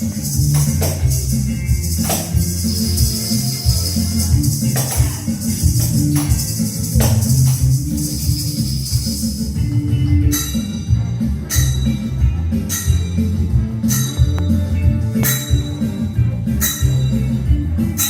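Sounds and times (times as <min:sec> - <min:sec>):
tambourines and shakers jingling: 0:00.0 - 0:18.0
tune with strong bass line: 0:00.0 - 0:18.0.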